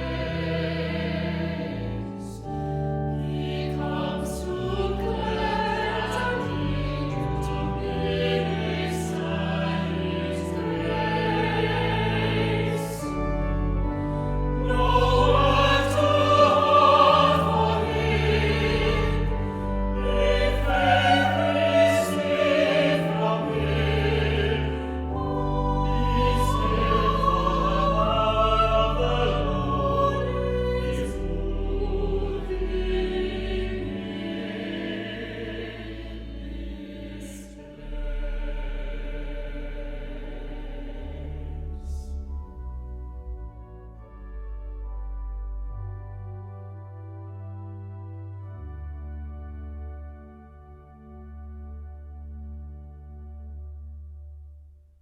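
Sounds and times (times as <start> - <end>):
choir singing: 0.0 - 53.0
instrumental accompaniment: 0.0 - 54.4.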